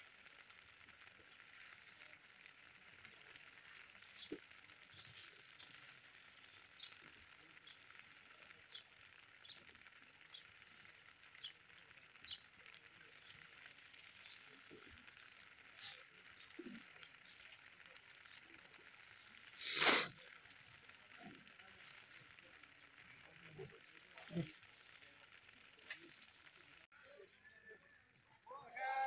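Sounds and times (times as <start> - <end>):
steady hiss: 0.0 - 26.9
small birds chirping: 0.0 - 29.0.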